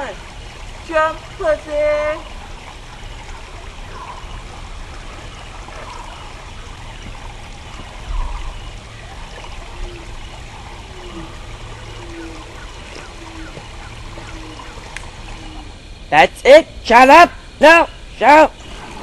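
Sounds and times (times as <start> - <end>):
stream water rushing: 0.0 - 16.1.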